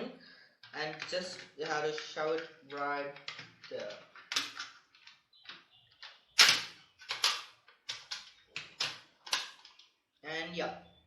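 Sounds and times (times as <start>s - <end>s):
toy gun parts knocking and clicking: 0.6s - 10.0s.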